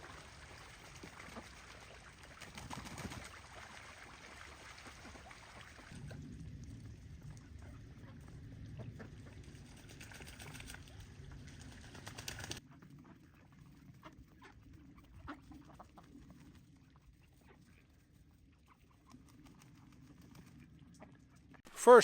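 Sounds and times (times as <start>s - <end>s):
ducks splashing in water: 0.0s - 20.6s.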